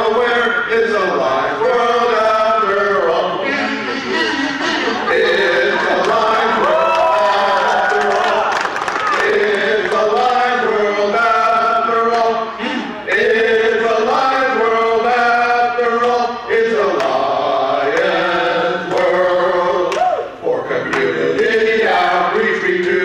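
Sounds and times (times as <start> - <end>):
men singing a cappella: 0.0 - 8.3, 9.2 - 23.0.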